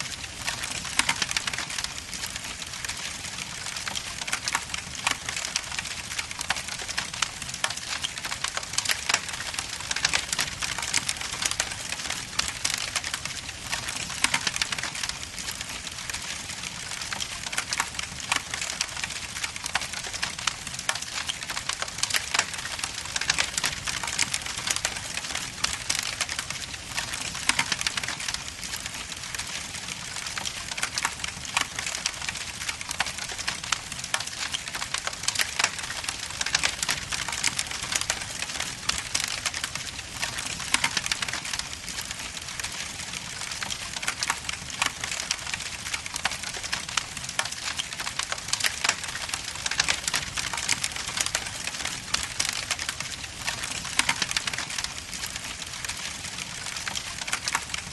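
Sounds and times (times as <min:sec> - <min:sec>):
logs crackling in a fireplace: 0:00.0 - 0:57.9.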